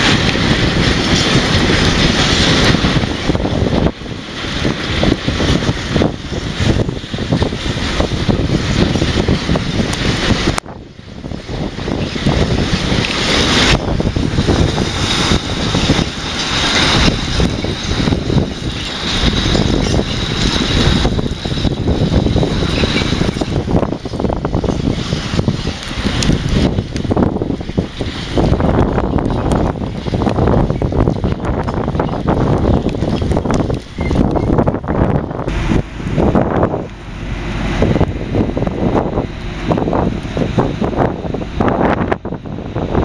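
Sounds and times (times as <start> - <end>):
train wheels clattering on rails: 0.0 - 43.0
wind buffeting microphone: 0.0 - 43.0.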